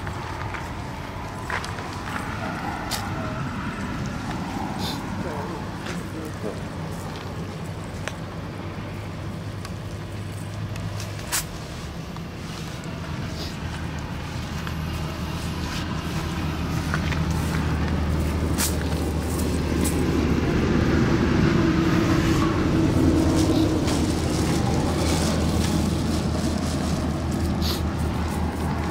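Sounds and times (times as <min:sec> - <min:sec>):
engine humming: 0:00.0 - 0:28.9.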